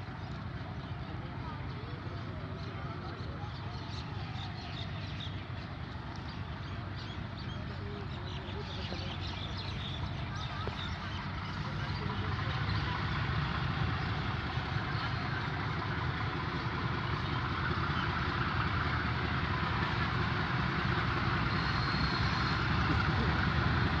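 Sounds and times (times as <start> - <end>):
locomotive engine rumbling: 0.0 - 24.0.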